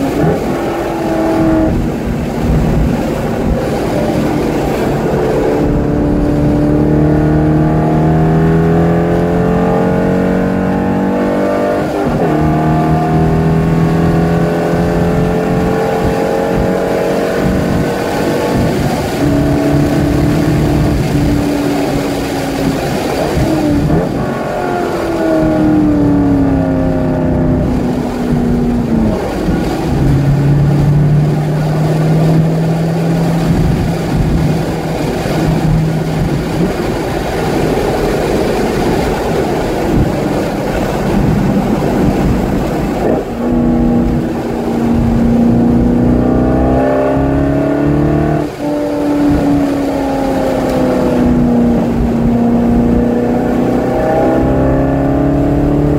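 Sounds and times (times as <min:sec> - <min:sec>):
car engine at full throttle: 0:00.0 - 0:55.9.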